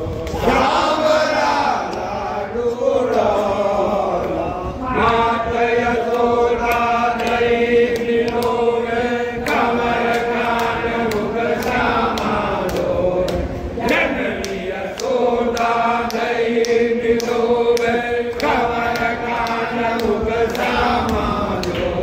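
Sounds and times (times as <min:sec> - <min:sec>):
group chanting a hymn: 0:00.0 - 0:22.0.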